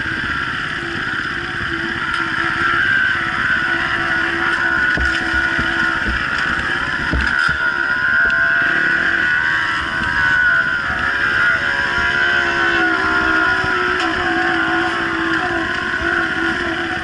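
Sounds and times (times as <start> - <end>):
dirt bike engines revving: 0.0 - 17.0
steady rushing noise: 0.0 - 17.0.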